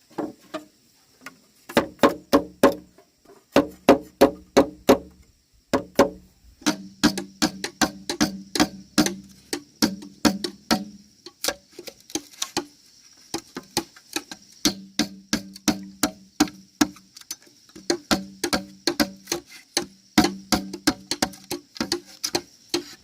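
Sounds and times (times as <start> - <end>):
hand tool striking wood: 1.7 - 23.0.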